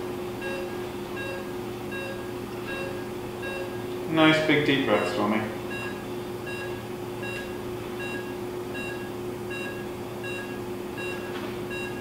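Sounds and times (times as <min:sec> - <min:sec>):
pulse oximeter beeping: 0:00.4 - 0:03.9, 0:05.7 - 0:12.0.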